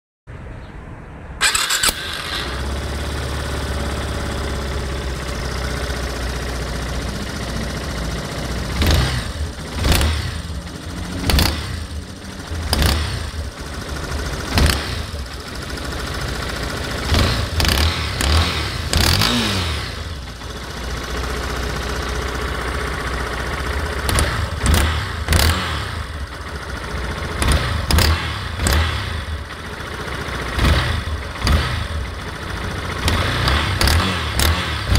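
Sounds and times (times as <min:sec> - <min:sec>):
motorcycle engine revving: 0:01.4 - 0:34.9.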